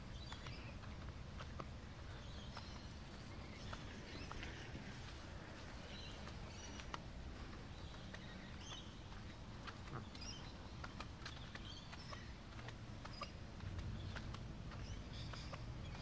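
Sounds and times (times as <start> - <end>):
light irregular clicks: 0.0 - 16.0
low street rumble: 0.0 - 16.0
faint bird chirps: 1.9 - 16.0.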